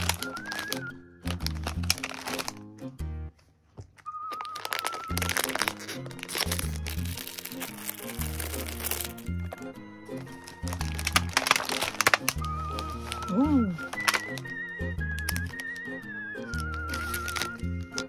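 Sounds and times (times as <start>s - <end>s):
scissors cutting plastic bag: 0.0s - 2.7s, 4.2s - 18.0s
plastic snack bag crinkling: 0.0s - 18.0s.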